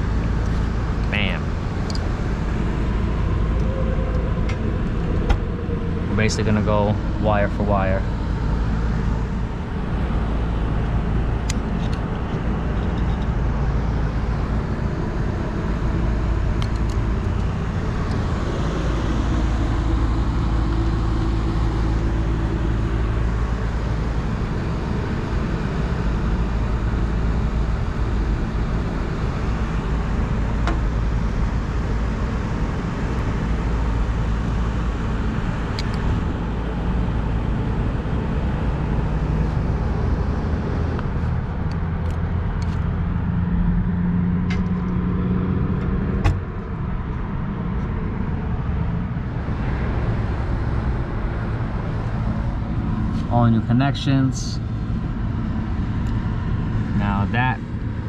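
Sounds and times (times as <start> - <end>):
machinery rumble and hum: 0.0 - 58.0.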